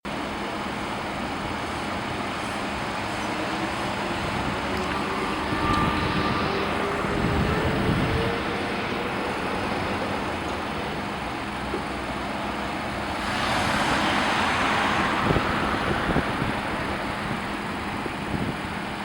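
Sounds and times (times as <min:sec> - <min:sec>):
vehicle engine noise: 0:00.1 - 0:19.0.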